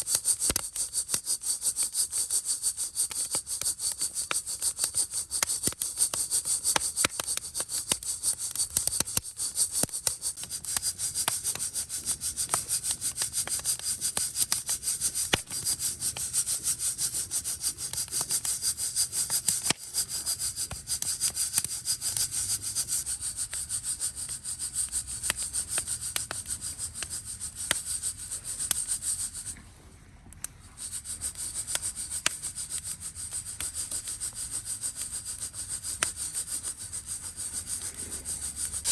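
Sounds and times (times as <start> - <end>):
coffee beans rattling in roaster: 0.0 - 29.6, 30.8 - 38.9.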